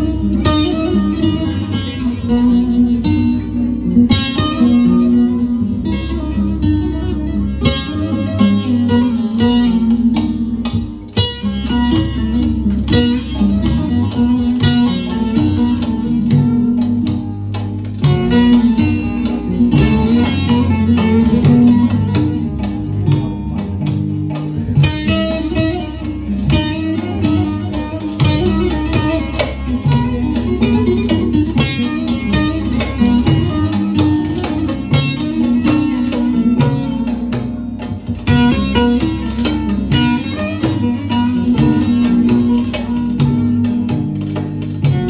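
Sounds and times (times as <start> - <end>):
plucked string folk melody: 0.0 - 45.0.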